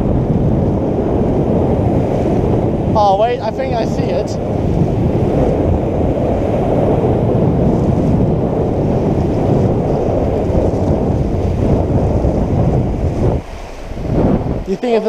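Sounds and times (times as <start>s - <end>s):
surf washing in: 0.0s - 15.0s
wind buffeting microphone: 0.0s - 15.0s.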